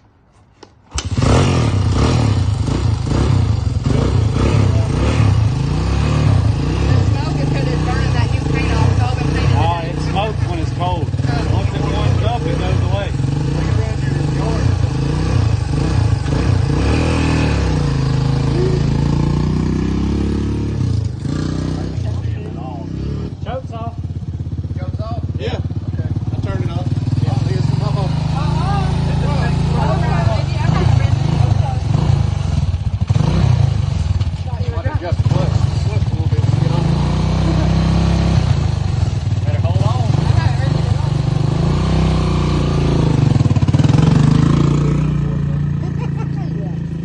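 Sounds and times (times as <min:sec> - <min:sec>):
motorcycle engine starting and running: 0:00.0 - 0:47.0.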